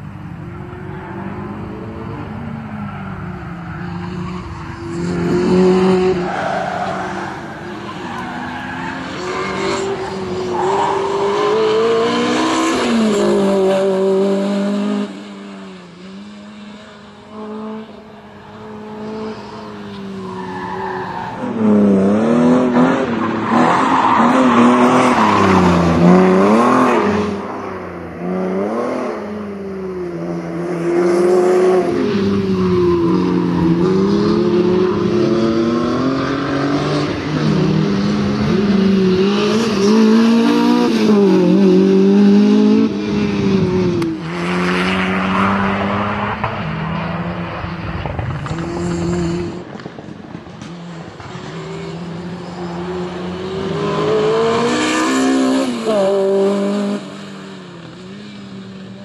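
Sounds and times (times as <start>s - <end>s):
car engine accelerating and shifting: 0.0s - 59.0s.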